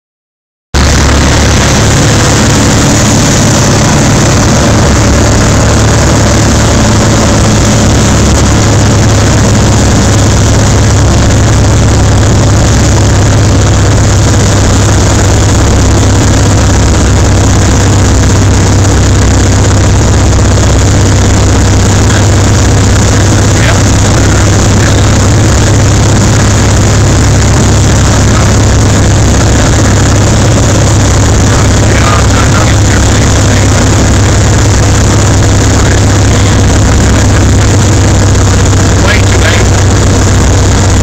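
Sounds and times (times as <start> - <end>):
propeller plane engine in cockpit: 0.7 - 41.0.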